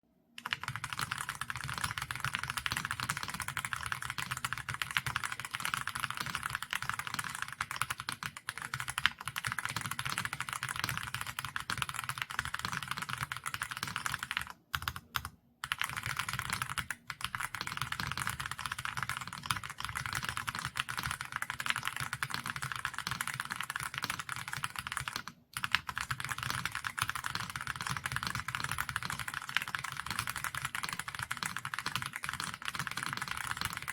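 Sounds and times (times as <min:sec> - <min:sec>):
fast mechanical keyboard typing: 0:00.4 - 0:33.9.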